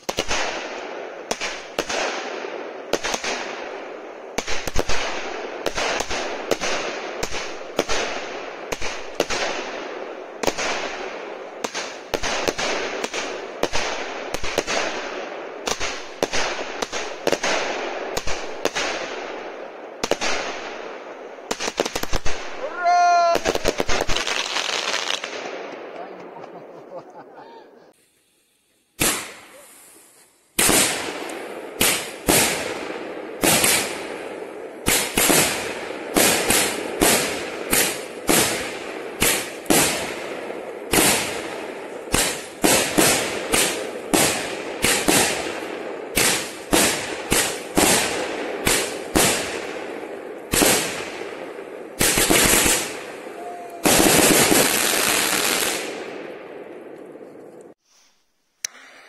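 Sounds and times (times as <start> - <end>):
fireworks bangs with echo: 0.0 - 26.6, 29.0 - 29.6, 30.6 - 57.8.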